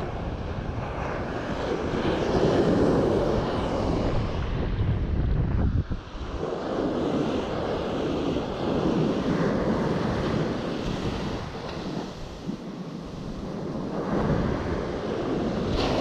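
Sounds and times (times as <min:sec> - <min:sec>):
ocean surf breaking: 0:00.0 - 0:04.8, 0:05.8 - 0:16.0
wind buffeting microphone: 0:00.0 - 0:16.0.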